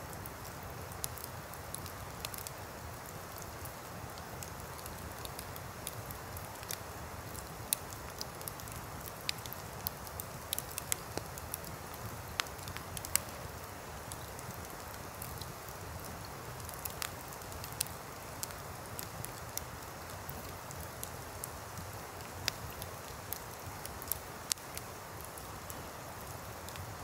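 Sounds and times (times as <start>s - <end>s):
campfire crackling and popping: 0.1s - 27.0s.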